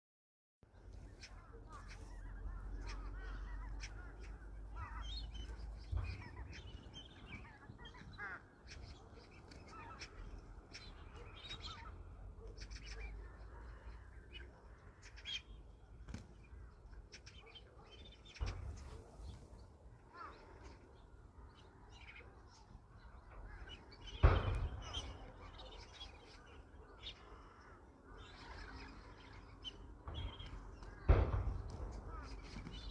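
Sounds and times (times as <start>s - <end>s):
birds chirping and calling: 0.7s - 32.9s.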